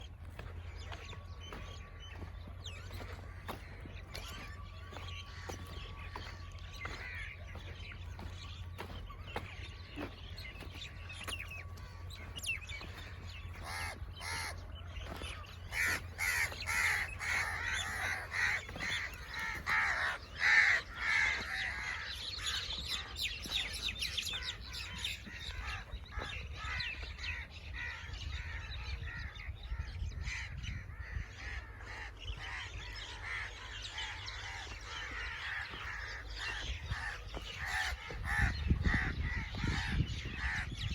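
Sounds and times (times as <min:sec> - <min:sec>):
small birds chirping: 0:00.0 - 0:40.9
crows cawing: 0:00.3 - 0:40.9.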